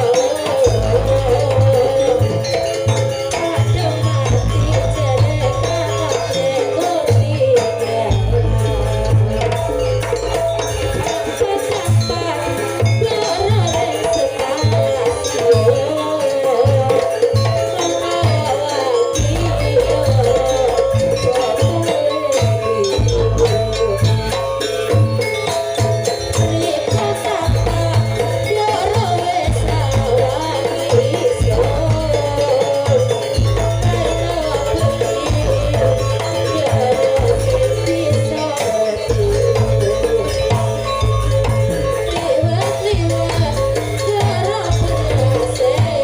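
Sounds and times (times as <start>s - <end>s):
gamelan melody: 0.0s - 46.0s.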